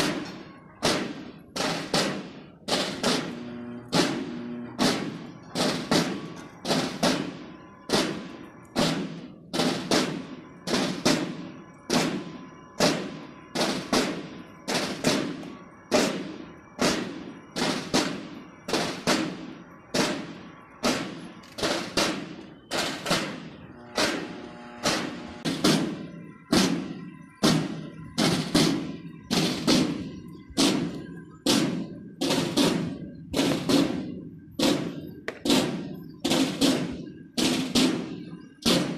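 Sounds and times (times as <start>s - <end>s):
drums beating a march: 0.0s - 38.9s
faint steady tones: 0.0s - 38.9s.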